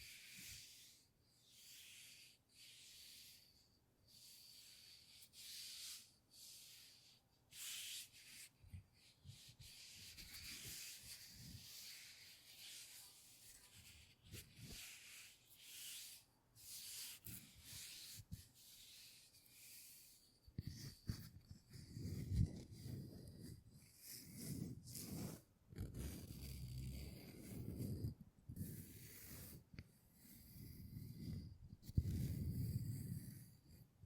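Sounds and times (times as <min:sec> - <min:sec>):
rubbing strokes on a surface: 0:00.0 - 0:28.1.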